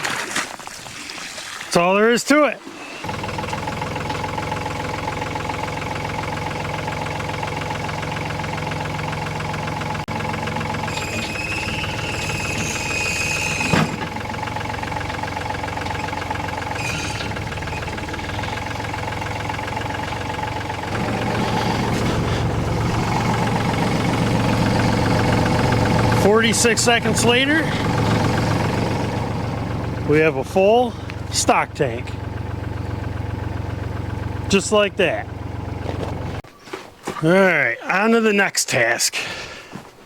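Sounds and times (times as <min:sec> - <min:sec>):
engine idling: 0:02.8 - 0:36.5.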